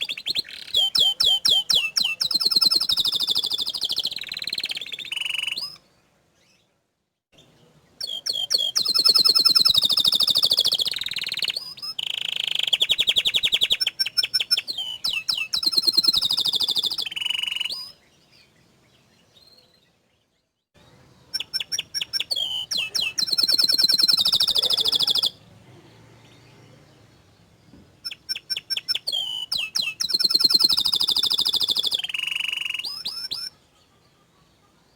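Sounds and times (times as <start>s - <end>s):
canary singing trills: 0.0s - 6.6s, 7.4s - 34.9s.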